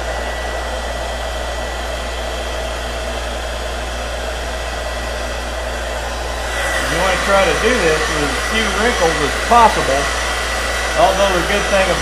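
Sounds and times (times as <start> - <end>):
heat gun blowing hot air: 0.0 - 12.0.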